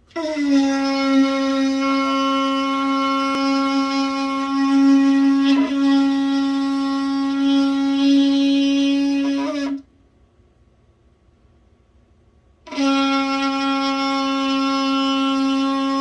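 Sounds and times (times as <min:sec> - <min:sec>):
shofar long blast: 0:00.0 - 0:09.9, 0:12.7 - 0:16.0.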